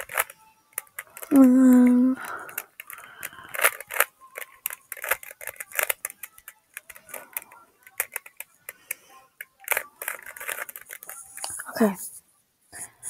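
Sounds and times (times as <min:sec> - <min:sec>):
puzzle cube clicking as turned: 0:00.0 - 0:11.7.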